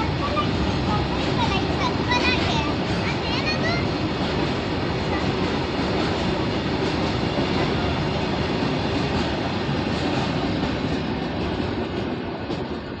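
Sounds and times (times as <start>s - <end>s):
freight train rumbling past: 0.0s - 13.0s
train wheels ticking: 0.0s - 13.0s.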